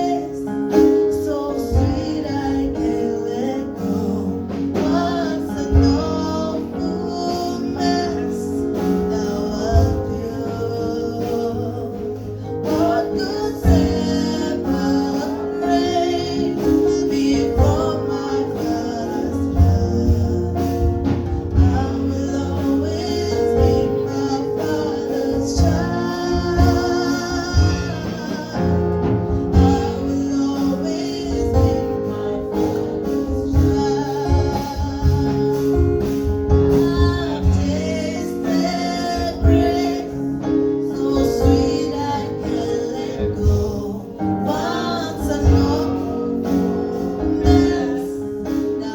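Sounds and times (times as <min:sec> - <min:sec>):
voices singing gospel song: 0:00.0 - 0:48.9.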